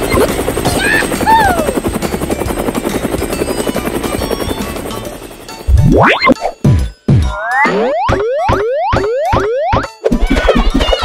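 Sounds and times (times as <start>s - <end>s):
cartoon helicopter rotor chop: 0.0s - 11.0s.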